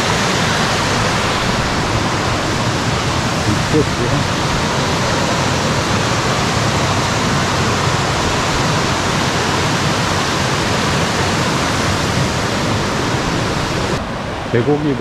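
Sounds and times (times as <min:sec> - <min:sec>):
stream rushing over waterfalls: 0:00.0 - 0:15.0.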